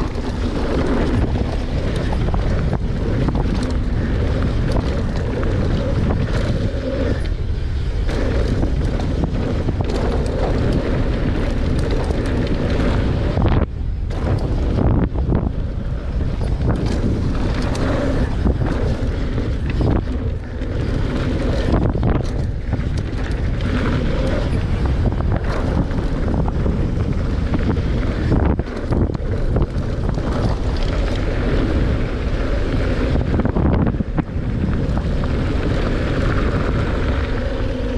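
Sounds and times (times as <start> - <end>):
tyres rolling on rock and dirt: 0.0 - 37.9
wind buffeting microphone: 0.0 - 37.9.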